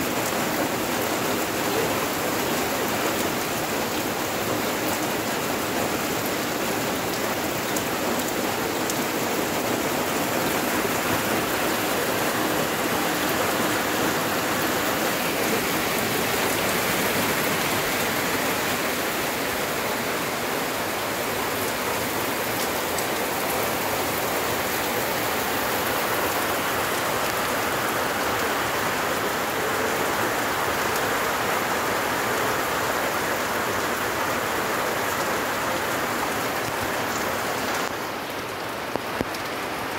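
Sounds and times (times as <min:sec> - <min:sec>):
heavy rain on roofs and concrete: 0:00.0 - 0:39.9.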